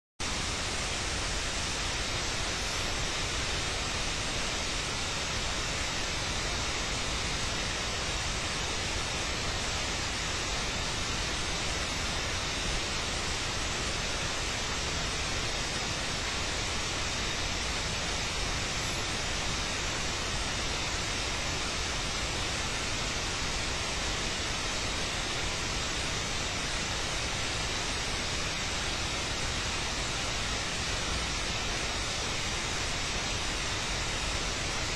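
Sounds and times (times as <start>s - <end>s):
steady hiss: 0.2s - 34.9s.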